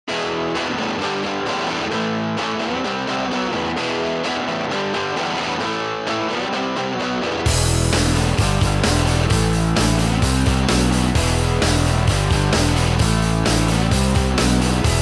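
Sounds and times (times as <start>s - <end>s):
guitar background music: 0.1s - 15.0s.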